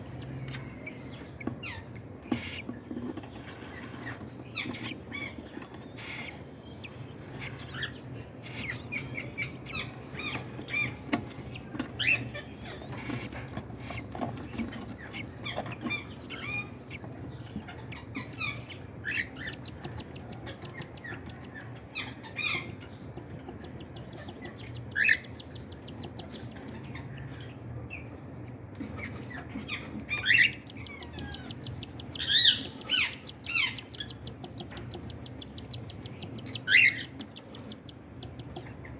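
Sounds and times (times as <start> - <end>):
low steady hum: 0.0 - 38.9
squeaky bird chirps: 0.1 - 38.9
loud bird calls: 4.6 - 38.9.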